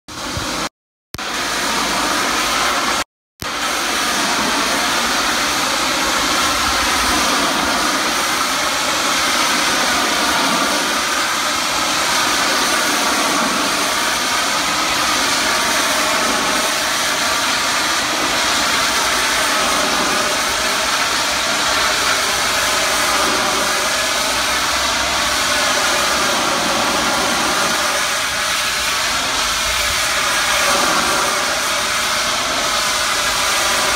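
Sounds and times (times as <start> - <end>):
pressure washer spray hissing: 1.3 - 33.9.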